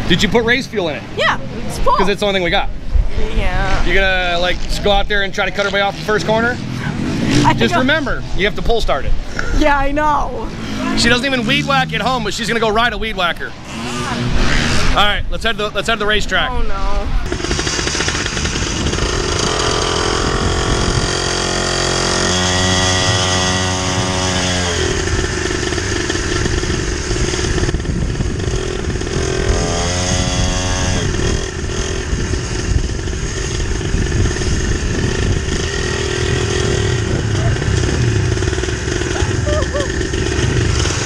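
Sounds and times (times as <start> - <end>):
dirt bike engine: 0.0 - 41.0.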